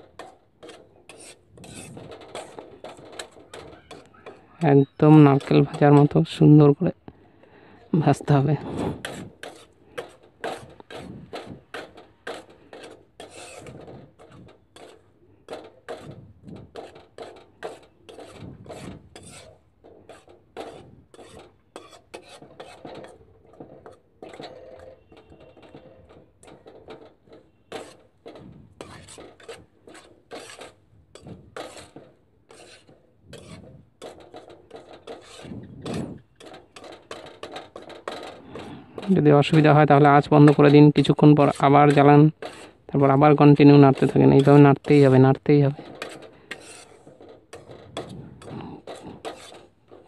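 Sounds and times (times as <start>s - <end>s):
metal spatula scraping a pan: 0.0s - 50.0s.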